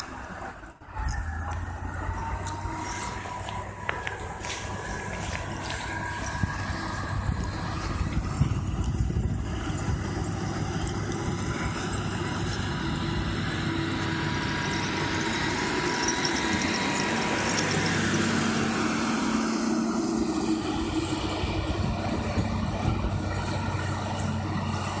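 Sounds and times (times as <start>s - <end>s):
grader diesel engine running: 0.0s - 25.0s.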